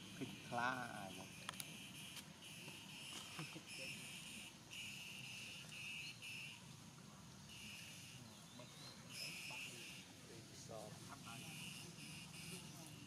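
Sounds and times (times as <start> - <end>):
faint forest ambience: 0.0 - 13.0
insects buzzing: 0.0 - 13.0.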